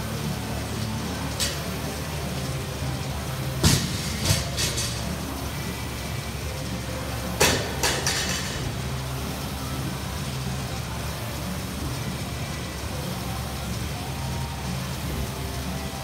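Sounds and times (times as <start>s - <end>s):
rowing machine flywheel whirring: 0.0s - 16.0s.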